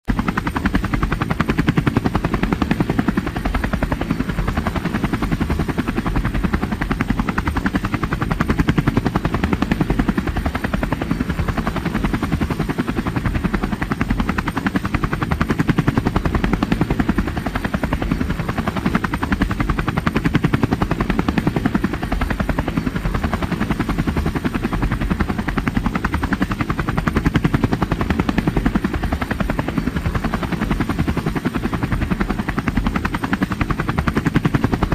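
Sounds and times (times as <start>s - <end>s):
helicopter rotor chopping: 0.0s - 34.9s.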